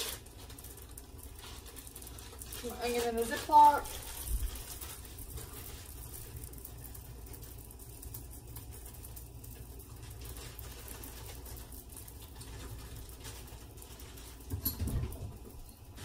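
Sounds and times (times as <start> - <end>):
low kitchen hum: 0.0 - 16.0.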